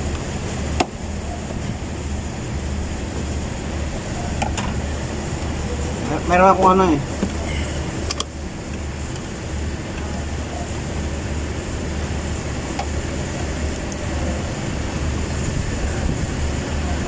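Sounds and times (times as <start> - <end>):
low rumble of machinery: 0.0 - 17.0.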